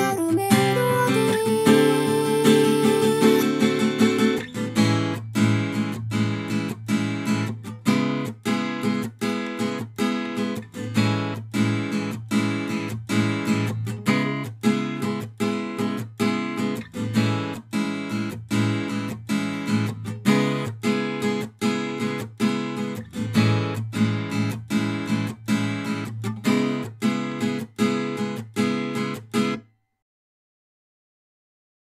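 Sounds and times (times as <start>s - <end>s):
guitar strumming: 0.0s - 29.6s.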